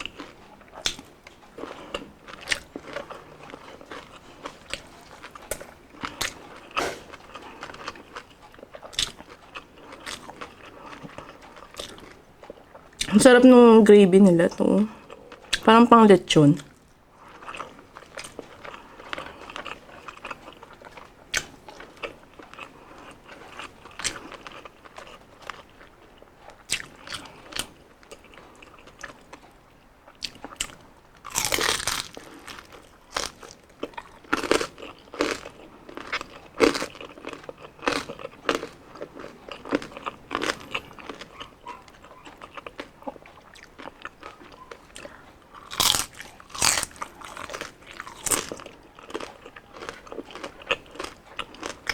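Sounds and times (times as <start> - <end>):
chewing crispy fried skin: 0.0 - 13.8, 14.7 - 15.7, 16.4 - 51.9.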